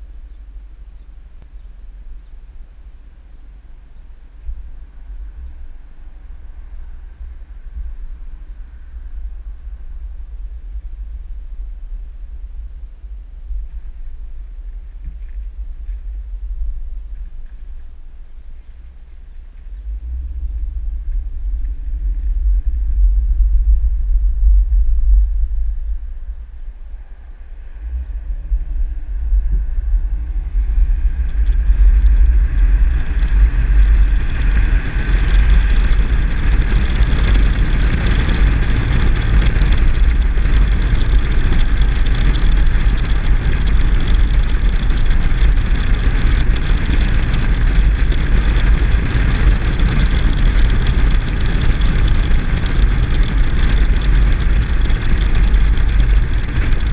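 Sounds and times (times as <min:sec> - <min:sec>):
tyre and road noise: 0:00.0 - 0:56.9
wind rumble on microphone: 0:00.0 - 0:56.9.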